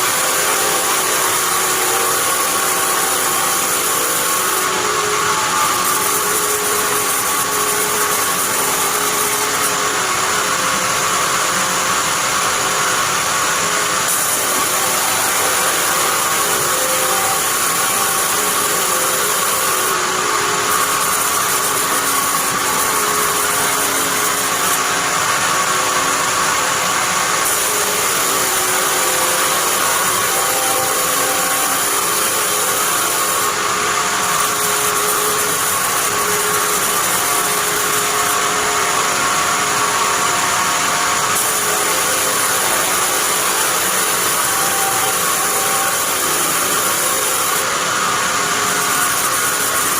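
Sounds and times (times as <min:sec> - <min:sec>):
band saw humming: 0:00.0 - 0:49.9.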